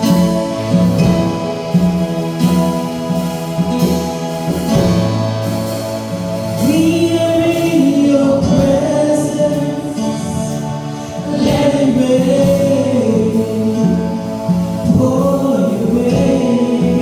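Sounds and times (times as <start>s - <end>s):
gospel singing: 0.0s - 17.0s
instrumental accompaniment: 0.0s - 17.0s.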